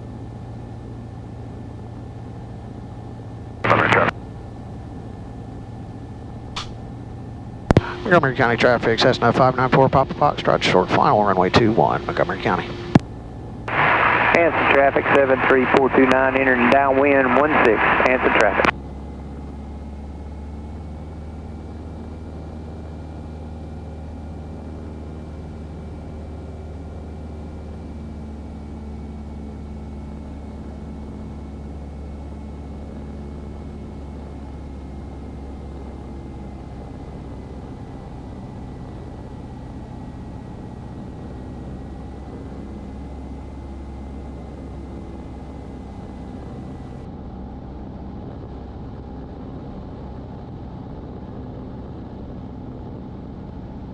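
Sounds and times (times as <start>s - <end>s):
light aircraft engine drone: 0.0s - 53.9s.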